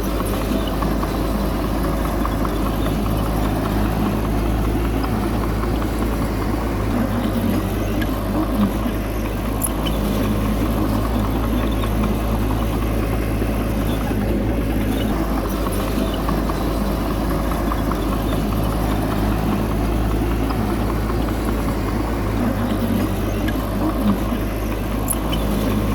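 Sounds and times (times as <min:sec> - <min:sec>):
heavy diesel engine rumbling: 0:00.0 - 0:25.9.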